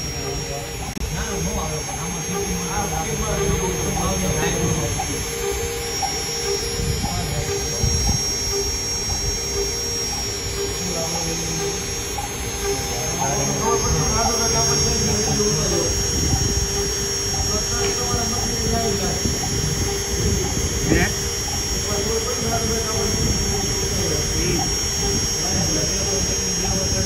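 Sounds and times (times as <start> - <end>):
lower motor tone: 0.0 - 27.0
router spindle whine: 0.0 - 27.0.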